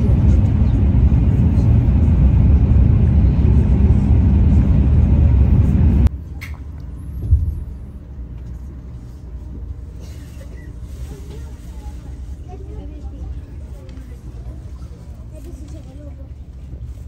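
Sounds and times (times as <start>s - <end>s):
train cabin low rumble: 0.0s - 17.0s.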